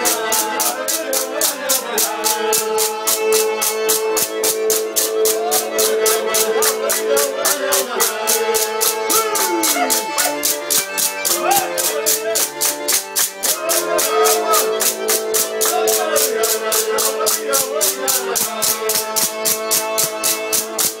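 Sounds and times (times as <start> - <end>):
voices calling out: 0.0 - 12.9, 13.5 - 20.1
button accordion dance tune: 0.0 - 21.0
handclaps: 0.0 - 21.0
wooden clapper clacking: 0.0 - 21.0.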